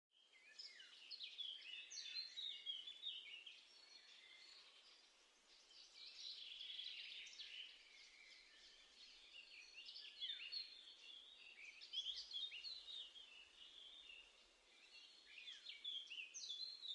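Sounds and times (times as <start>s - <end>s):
faint songbird chirping: 0.1s - 16.9s.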